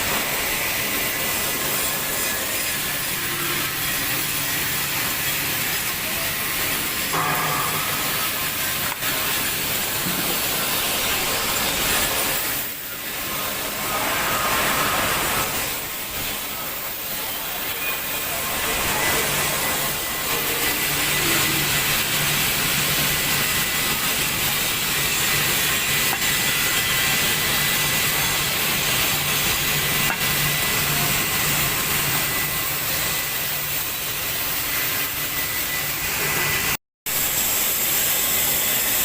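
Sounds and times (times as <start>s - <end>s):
hissing machine noise: 0.0s - 39.0s.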